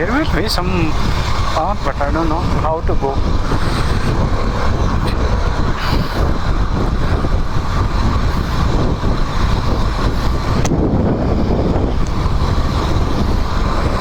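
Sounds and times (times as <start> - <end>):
motorcycle engine and road rumble: 0.0 - 14.0
wind rush over microphone: 0.0 - 14.0.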